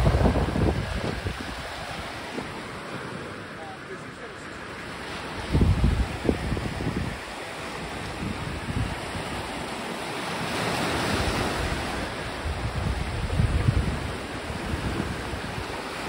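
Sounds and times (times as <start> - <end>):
wind buffeting microphone: 0.0 - 3.0, 5.1 - 16.0
surf breaking on rocky shore: 0.0 - 16.0.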